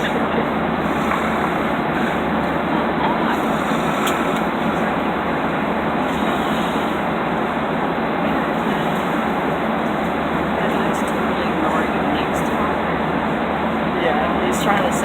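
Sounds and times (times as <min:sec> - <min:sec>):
airplane cabin engine rushing: 0:00.0 - 0:15.0.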